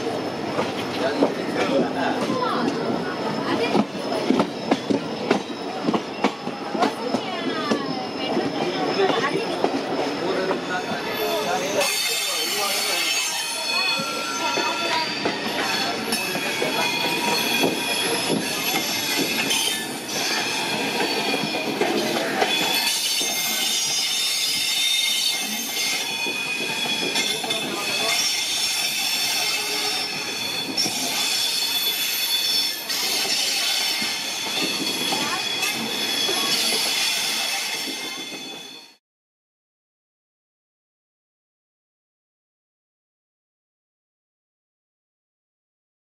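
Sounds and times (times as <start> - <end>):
train wheels squealing on curve: 0.0 - 39.0.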